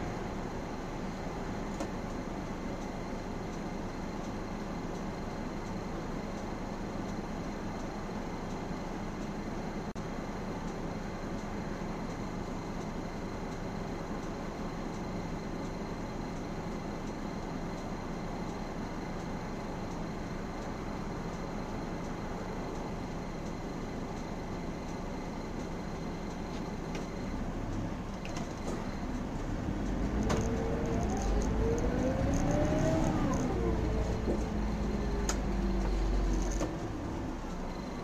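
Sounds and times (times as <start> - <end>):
bus diesel engine idling and revving: 0.0 - 38.0.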